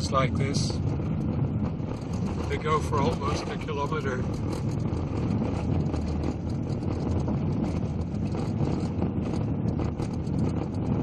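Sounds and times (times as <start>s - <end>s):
gravel ticks and rattles: 0.0s - 11.0s
tyres and engine rumbling: 0.0s - 11.0s.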